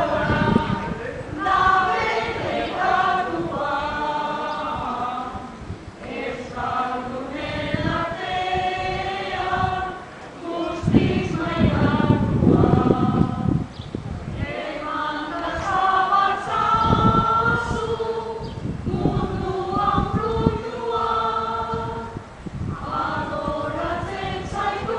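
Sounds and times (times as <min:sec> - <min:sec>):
group singing unaccompanied: 0:00.0 - 0:24.9.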